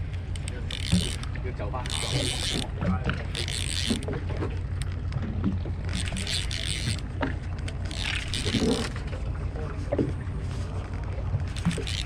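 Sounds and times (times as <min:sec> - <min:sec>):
boat engine low rumble: 0:00.0 - 0:12.0
water washing against hull: 0:00.0 - 0:12.0.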